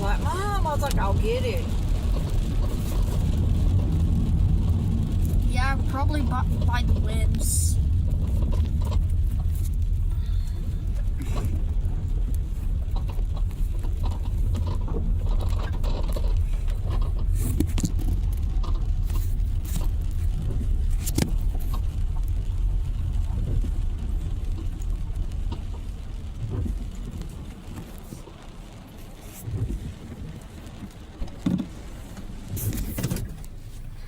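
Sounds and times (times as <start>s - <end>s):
car cabin rumble: 0.0s - 34.0s.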